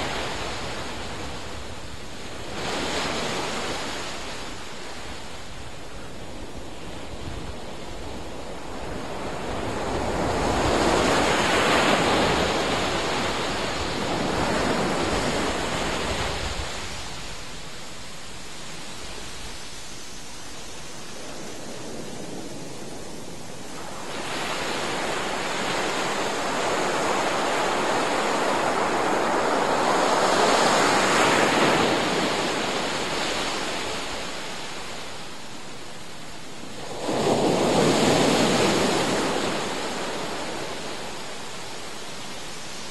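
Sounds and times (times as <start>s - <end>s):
ocean surf on sandy beach: 0.0s - 42.9s.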